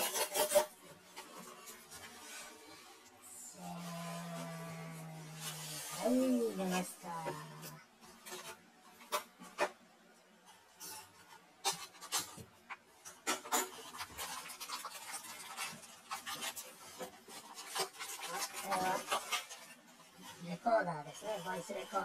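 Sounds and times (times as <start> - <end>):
plastic wrap crinkling: 0.0 - 22.0.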